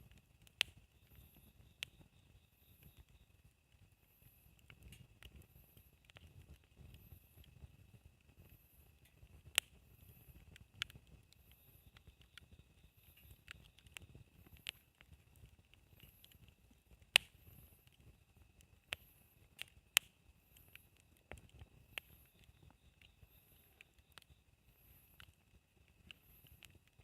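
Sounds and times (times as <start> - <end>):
campfire crackling: 0.0 - 27.0
fire sharp pops: 0.0 - 27.0.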